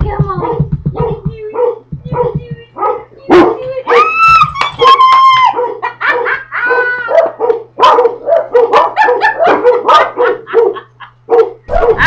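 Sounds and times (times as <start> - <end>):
dog barking and yipping: 0.4 - 4.2, 4.8 - 12.0.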